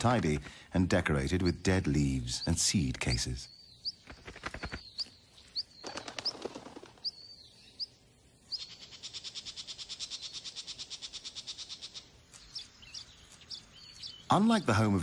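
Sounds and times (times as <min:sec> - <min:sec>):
bird chirps and trill: 0:01.2 - 0:15.0.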